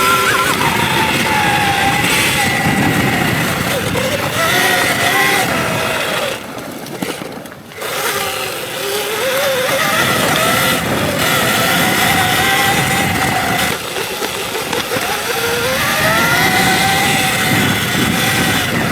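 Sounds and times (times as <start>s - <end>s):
electric dirt bike motor whine: 0.0s - 18.9s
tyre noise: 0.0s - 18.9s
wind noise: 0.0s - 18.9s.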